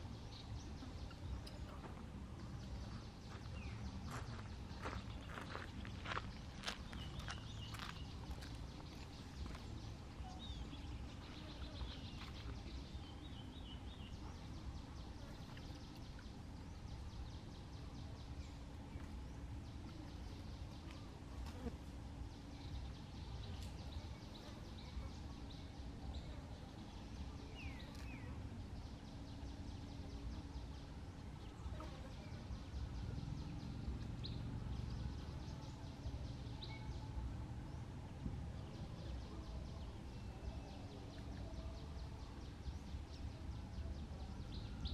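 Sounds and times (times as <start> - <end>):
faint hum: 0.0 - 44.9
steady low rumble: 0.0 - 44.9.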